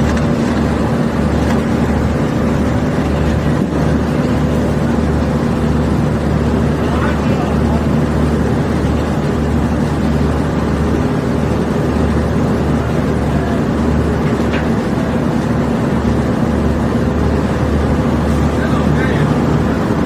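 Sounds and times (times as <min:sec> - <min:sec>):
heavy engine droning: 0:00.0 - 0:20.0.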